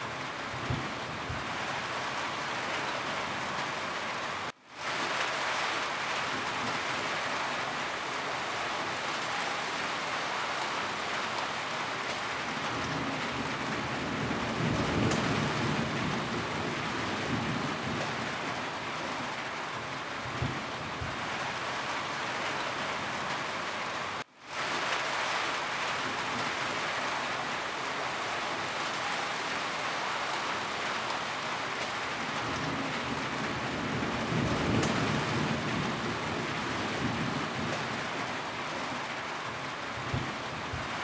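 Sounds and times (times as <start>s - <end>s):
rain on a roof: 0.0s - 41.0s.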